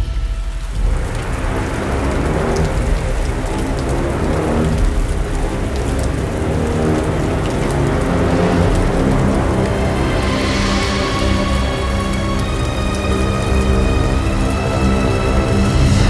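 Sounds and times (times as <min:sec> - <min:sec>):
dramatic music: 0:00.0 - 0:16.0
heavy rain hissing: 0:00.0 - 0:16.0.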